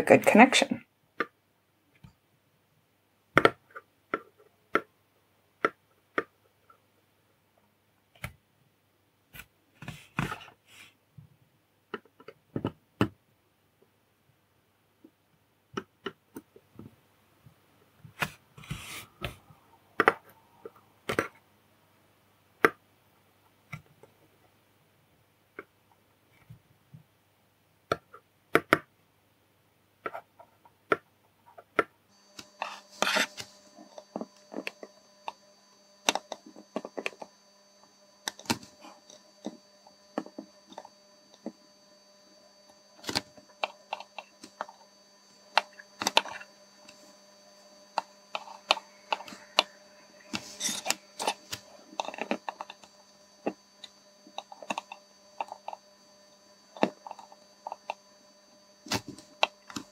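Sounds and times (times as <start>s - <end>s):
faint hum with high whine: 0.0s - 59.9s.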